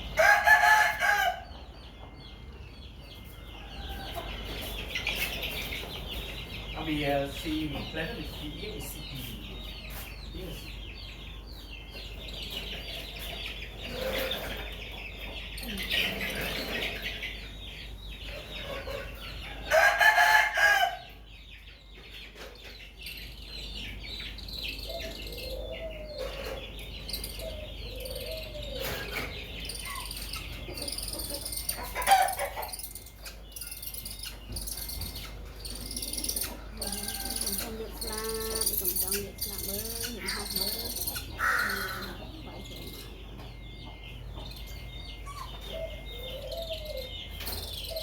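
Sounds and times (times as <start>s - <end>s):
chickens clucking: 0.0s - 48.0s
small birds chirping: 0.0s - 48.0s.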